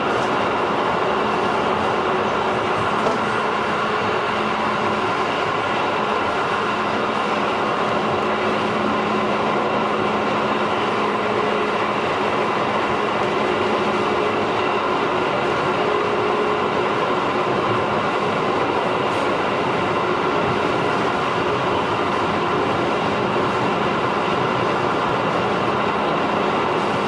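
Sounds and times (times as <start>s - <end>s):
train rolling on track: 0.0s - 27.0s.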